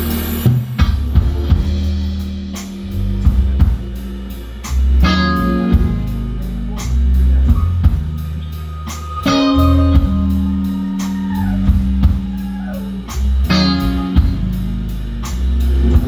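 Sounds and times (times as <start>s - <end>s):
bass notes: 0.0s - 16.0s
drums: 0.0s - 16.0s
electric guitar lead lines: 0.0s - 16.0s.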